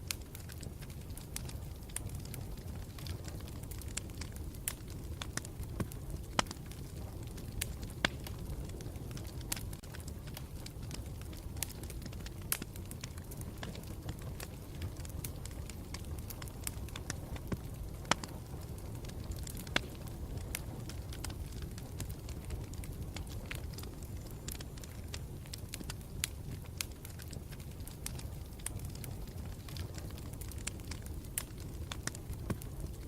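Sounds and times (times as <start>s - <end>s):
burning wood crackling and popping: 0.0s - 33.0s
low rumble of flame: 0.0s - 33.0s.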